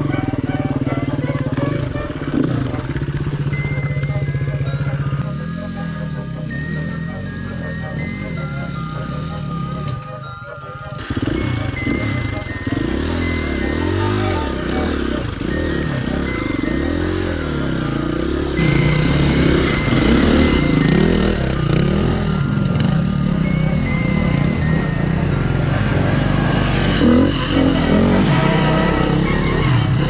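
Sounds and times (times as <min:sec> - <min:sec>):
dirt bike engine revving: 0:00.0 - 0:09.8, 0:11.0 - 0:30.0.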